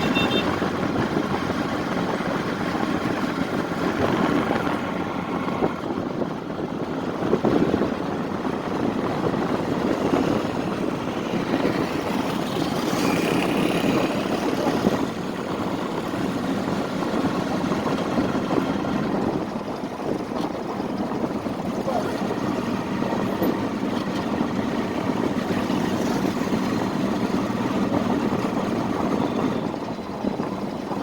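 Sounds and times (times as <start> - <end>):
vehicle engines running: 0.0 - 31.0.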